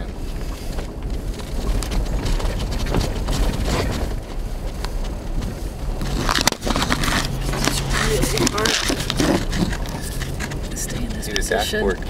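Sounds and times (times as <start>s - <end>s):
things rattling in cab: 0.0s - 12.0s
tyres crackling on snow: 0.0s - 12.0s
vehicle rumble driving: 0.0s - 12.0s.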